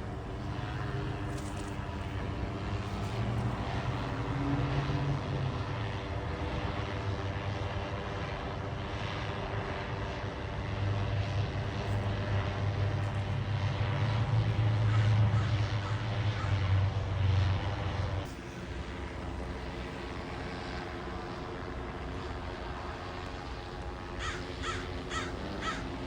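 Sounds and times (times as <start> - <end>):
aircraft engine and propeller buzzing: 0.0 - 26.0.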